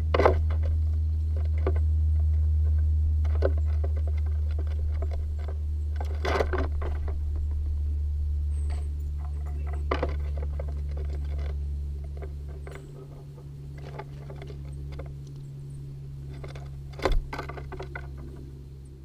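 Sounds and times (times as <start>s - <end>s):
squirrel scrabbling on wood: 0.0s - 19.0s
steady low hum: 0.0s - 19.0s.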